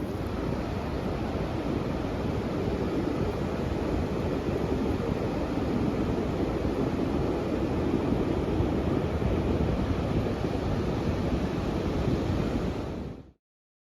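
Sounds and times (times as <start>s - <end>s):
wind on microphone: 0.0s - 13.4s.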